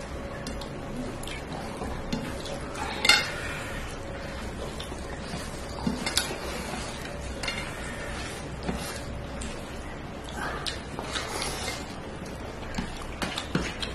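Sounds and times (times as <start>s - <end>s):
food rustling and squelching: 0.0s - 13.9s.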